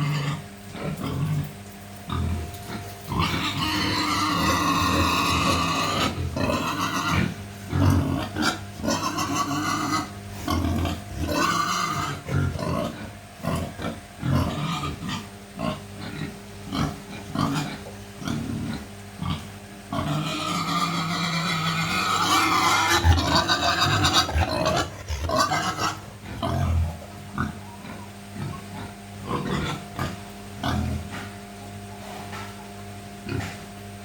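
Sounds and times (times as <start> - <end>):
pig grunting and squealing: 0.0 - 31.1.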